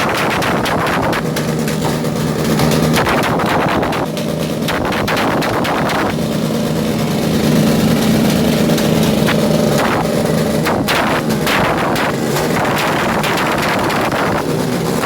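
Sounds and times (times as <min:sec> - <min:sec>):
engine cracks and pops: 0:00.0 - 0:15.0
motorcycle engine revving hard: 0:00.0 - 0:15.0.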